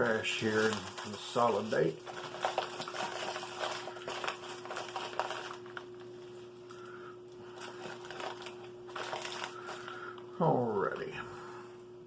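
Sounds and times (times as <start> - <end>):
plastic wrappers crinkling: 0.0 - 11.1
faint steady hum: 0.0 - 12.0.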